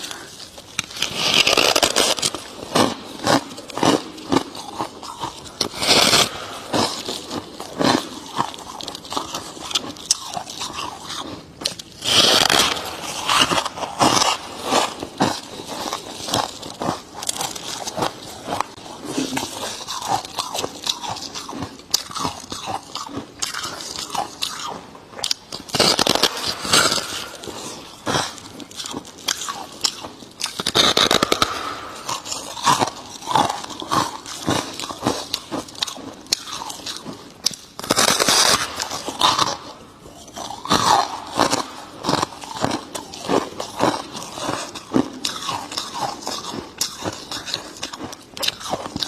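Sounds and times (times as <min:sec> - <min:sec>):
crunching and chewing frost: 0:00.0 - 0:49.0.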